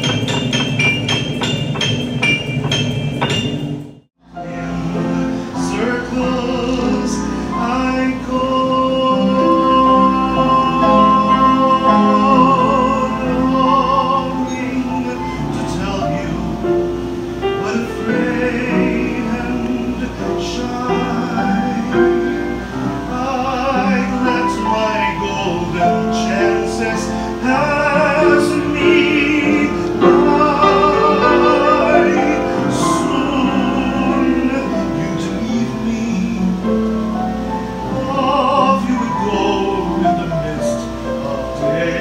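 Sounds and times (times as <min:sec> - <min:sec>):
piano chords: 0:00.0 - 0:42.0
operatic singing: 0:04.2 - 0:42.0.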